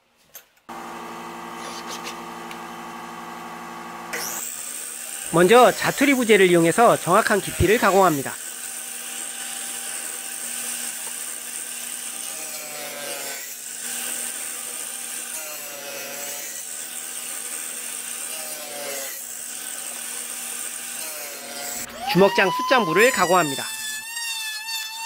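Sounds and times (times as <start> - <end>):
table saw cutting wood: 0.7 - 25.0.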